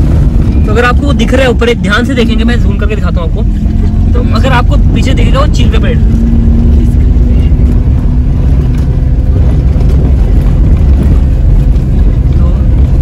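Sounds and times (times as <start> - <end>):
engine rumbling on climb: 0.0 - 13.0
steady engine hum: 0.0 - 13.0.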